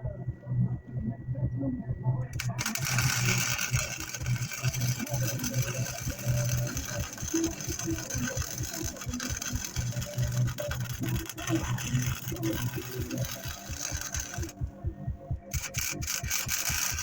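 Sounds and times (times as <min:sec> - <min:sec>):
welder arc crackling and buzzing: 0:02.3 - 0:17.0.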